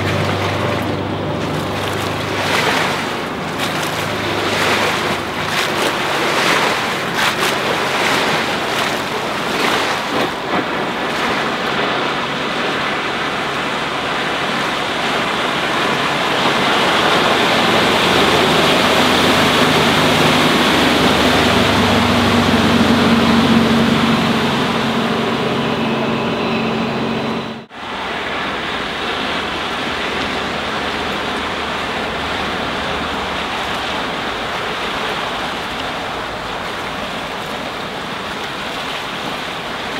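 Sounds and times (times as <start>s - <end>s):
motorboat engine hum: 0.0s - 39.9s
water rushing: 0.0s - 39.9s.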